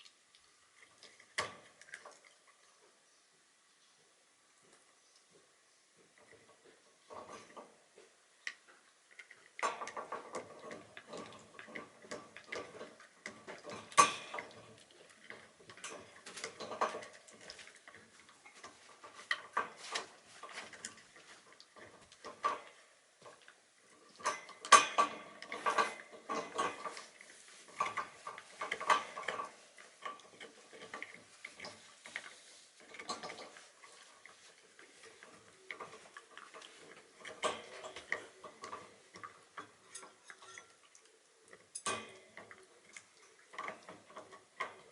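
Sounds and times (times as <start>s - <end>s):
dog gnawing a hoof chew: 6.0s - 44.9s.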